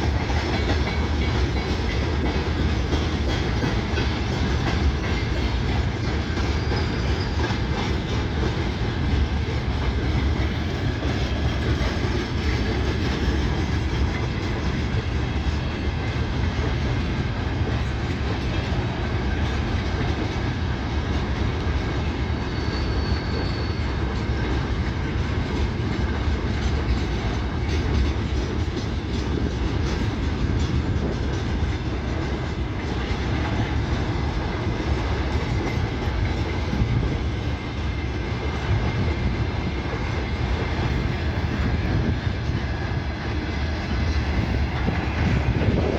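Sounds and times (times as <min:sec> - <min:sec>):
train wheels on rails: 0:00.0 - 0:45.9.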